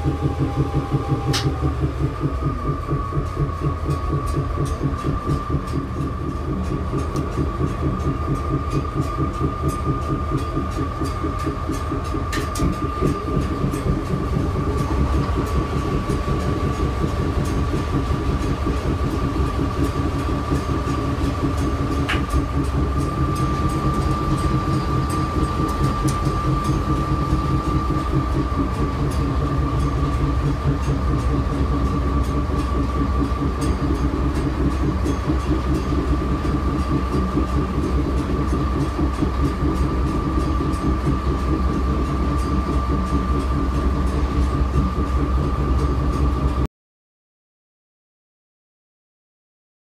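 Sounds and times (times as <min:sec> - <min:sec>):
diesel locomotive engine idling: 0:00.0 - 0:46.7
high-pitched whine: 0:00.0 - 0:46.7.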